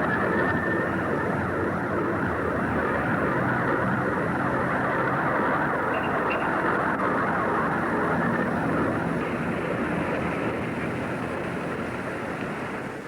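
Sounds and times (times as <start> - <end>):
engine roar: 0.0 - 13.0.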